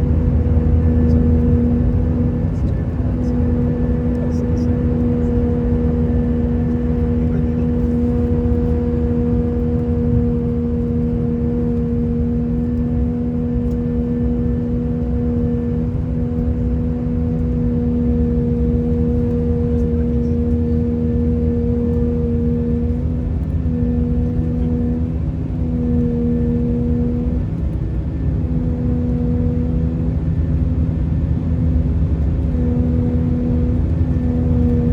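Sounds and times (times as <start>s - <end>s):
engine and airflow rumble: 0.0s - 34.9s
steady low hum: 0.0s - 34.9s.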